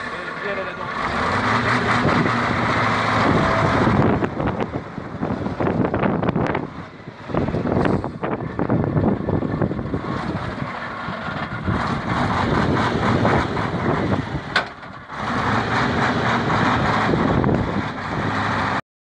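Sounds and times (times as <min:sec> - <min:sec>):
rushing noisy rumble: 0:00.0 - 0:18.8
truck diesel engine running: 0:00.0 - 0:18.8.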